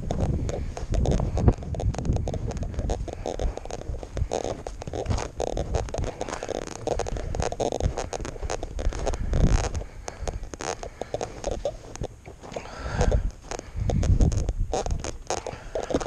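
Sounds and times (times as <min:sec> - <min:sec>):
footsteps crunching through snow: 0:00.0 - 0:16.0
wind buffeting microphone: 0:00.0 - 0:16.0.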